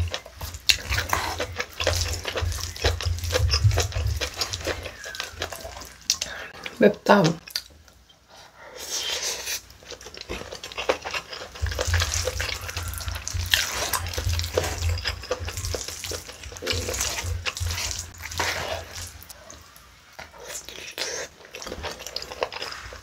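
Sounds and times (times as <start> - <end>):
chewing food: 0.0 - 23.0.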